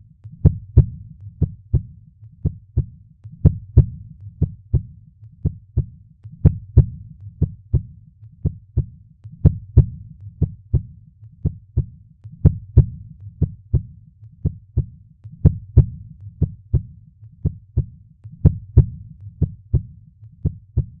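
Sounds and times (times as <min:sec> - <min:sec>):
heartbeat: 0:00.0 - 0:21.0.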